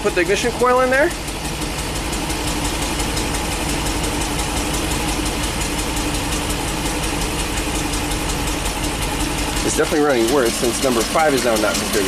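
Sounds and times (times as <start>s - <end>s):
engine running roughly: 0.0s - 12.0s.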